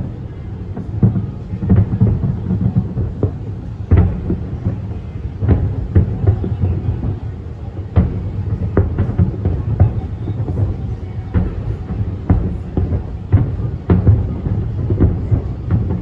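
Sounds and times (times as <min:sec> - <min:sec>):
fireworks booms and cracks: 0:00.0 - 0:16.0.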